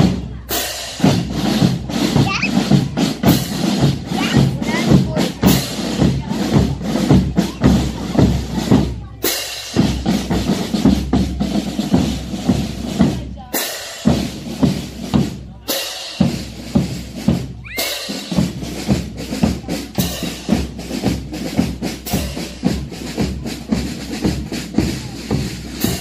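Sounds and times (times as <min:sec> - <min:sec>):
drums beating march rhythm: 0:00.0 - 0:26.0.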